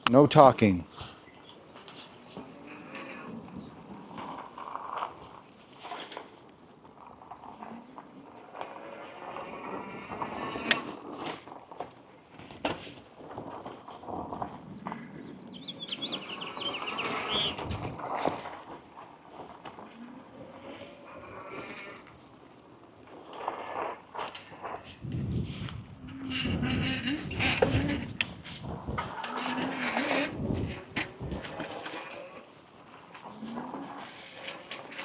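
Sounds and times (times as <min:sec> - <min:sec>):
bike tyres on dirt: 0:00.0 - 0:35.0
bike clicking and rattling: 0:00.9 - 0:35.0.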